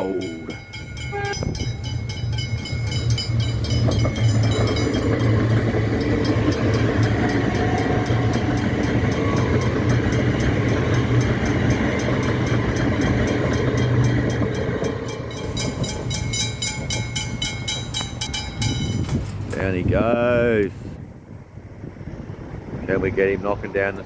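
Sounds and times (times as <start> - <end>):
electric train running past: 0.0 - 19.8, 21.0 - 24.0
regular clicking of train: 0.0 - 24.0.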